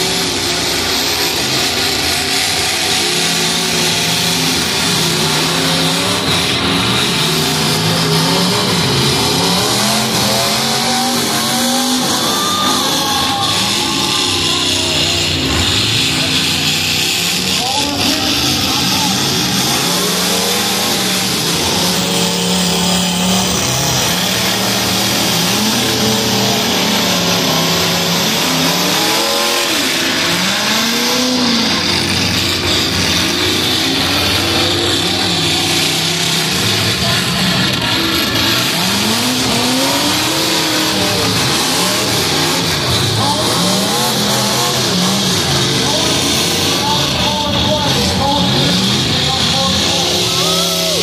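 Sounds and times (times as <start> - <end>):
car engines revving hard: 0.0 - 51.0.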